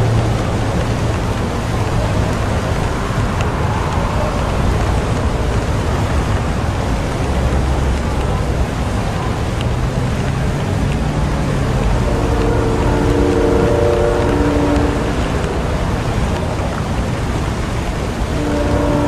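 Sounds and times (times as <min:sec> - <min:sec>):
city traffic rumble: 0:00.0 - 0:19.0
steady rain: 0:00.0 - 0:19.0.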